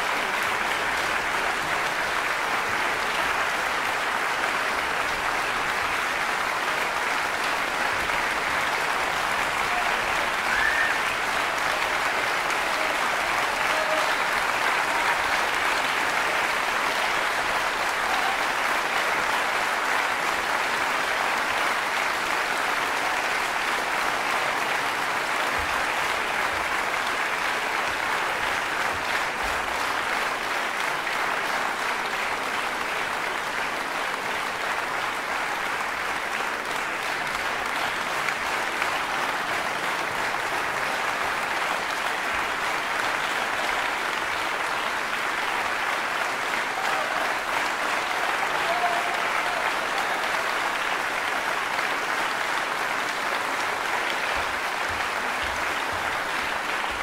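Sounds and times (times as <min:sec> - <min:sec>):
audience applauding: 0:00.0 - 0:57.0.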